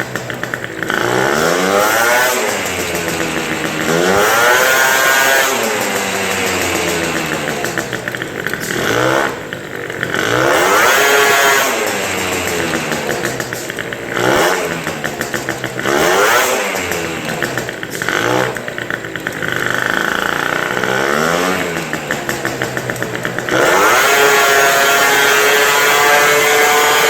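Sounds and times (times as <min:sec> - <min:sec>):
two-stroke scooter engine revving: 0:00.0 - 0:27.0.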